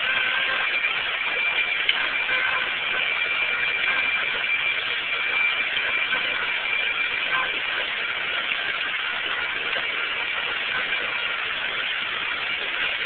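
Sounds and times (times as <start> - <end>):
forklift running with whine: 0.0 - 13.0.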